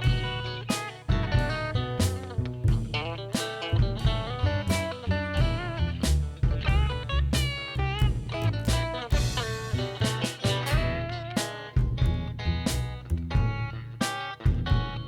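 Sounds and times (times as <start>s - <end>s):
bass line: 0.0s - 15.0s
plucked guitar melody: 0.0s - 15.0s
steady drum beat: 0.0s - 15.0s.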